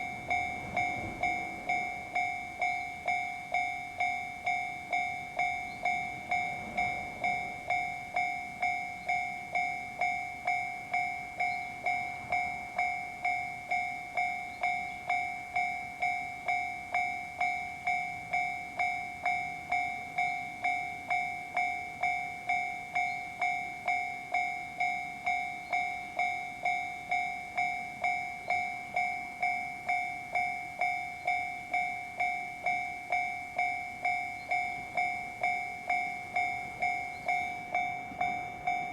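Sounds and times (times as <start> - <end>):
level crossing bell ringing: 0.0 - 38.9.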